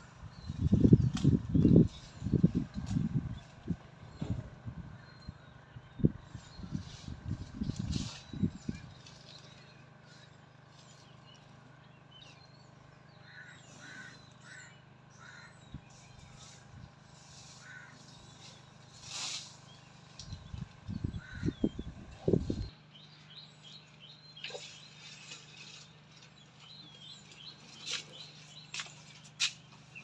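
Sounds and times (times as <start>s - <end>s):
birds calling: 0.0s - 30.0s.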